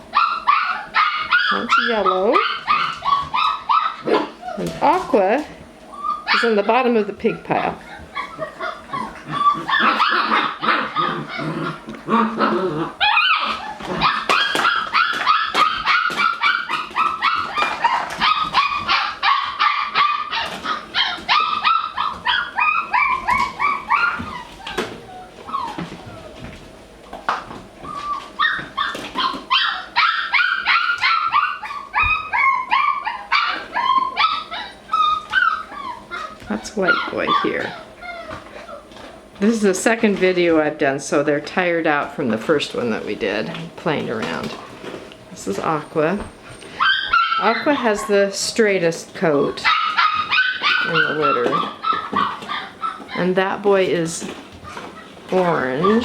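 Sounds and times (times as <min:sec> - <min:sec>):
puppies yipping and barking: 0:00.0 - 0:39.4, 0:44.3 - 0:56.0.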